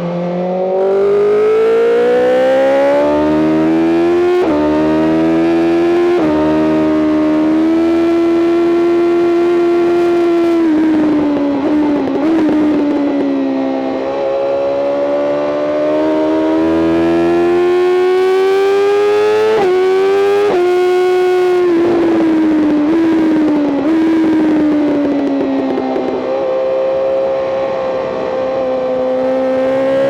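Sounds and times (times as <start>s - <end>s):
motorcycle engine revving: 0.0s - 30.0s
gear shifts: 0.8s - 14.1s, 14.8s - 26.4s.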